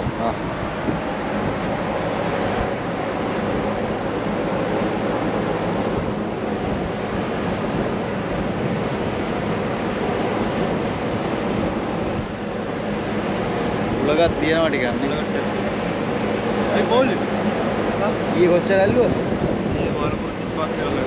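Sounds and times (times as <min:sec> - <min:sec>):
constant low hum: 0:00.0 - 0:21.0
ship's machinery: 0:00.0 - 0:21.0
wind rushing: 0:00.0 - 0:21.0.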